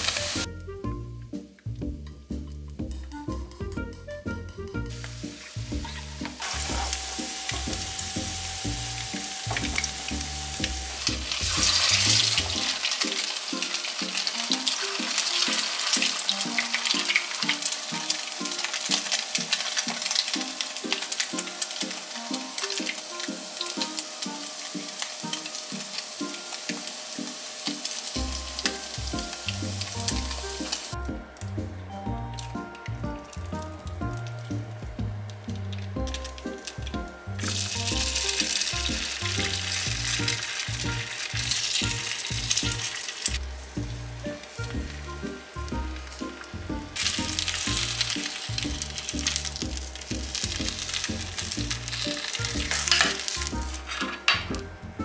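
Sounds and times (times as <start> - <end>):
food sizzling in oil: 0.0 - 0.5, 4.8 - 31.1, 35.3 - 55.0.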